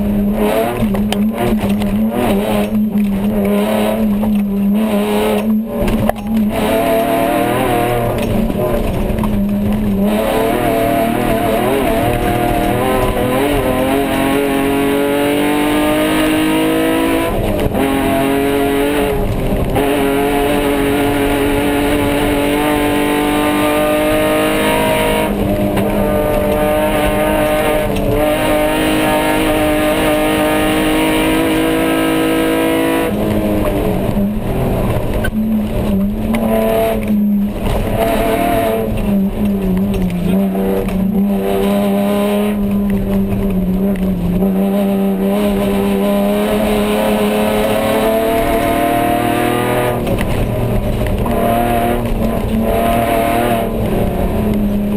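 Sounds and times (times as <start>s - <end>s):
race car engine under load: 0.0s - 54.9s.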